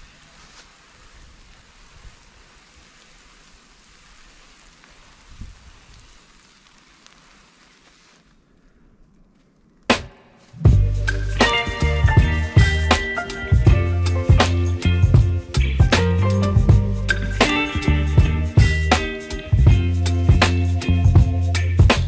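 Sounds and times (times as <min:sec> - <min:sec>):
water hissing from brush jets: 0:00.0 - 0:08.5, 0:10.6 - 0:22.0.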